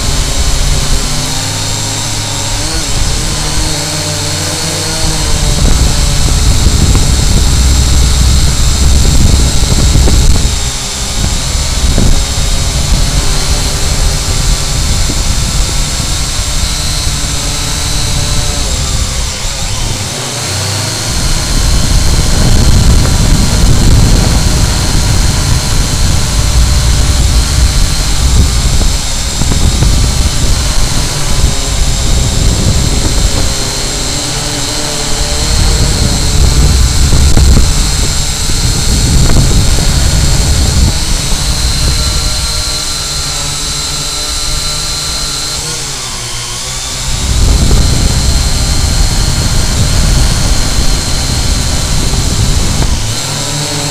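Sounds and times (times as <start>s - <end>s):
drone propellers whining: 0.0s - 53.9s
wind buffeting microphone: 0.0s - 53.9s.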